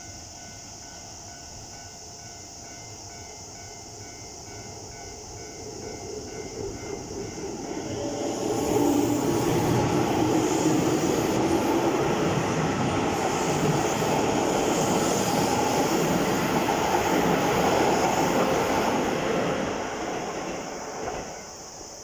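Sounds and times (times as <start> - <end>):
electric train passing close by: 0.0 - 22.0.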